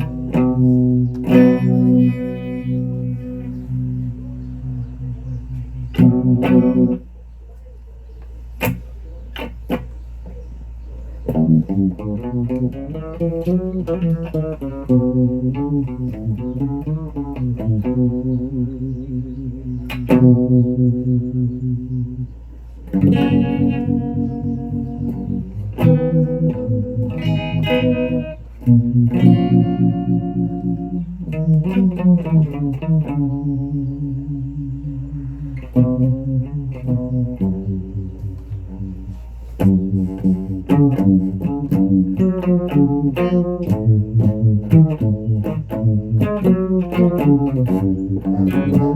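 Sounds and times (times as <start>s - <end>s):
electric guitar with effects: 0.0s - 7.1s, 8.6s - 10.4s, 11.2s - 48.9s
steady low hum: 0.0s - 48.9s.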